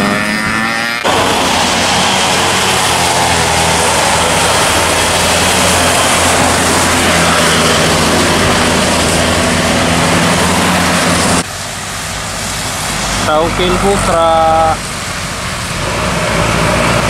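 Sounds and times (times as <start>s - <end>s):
bus diesel engine running: 0.0s - 17.0s
tyres hissing on wet road: 1.0s - 17.0s.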